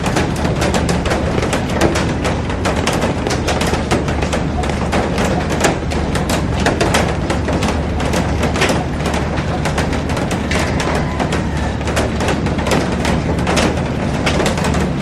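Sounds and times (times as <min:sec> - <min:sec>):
heavy rain on glass roof: 0:00.0 - 0:15.0.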